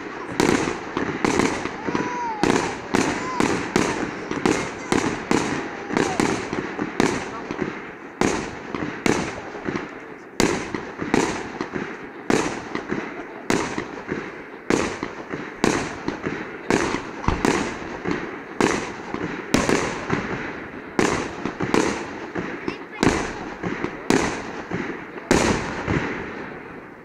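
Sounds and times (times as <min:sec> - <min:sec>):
firework shells bursting with echo: 0:00.0 - 0:27.0.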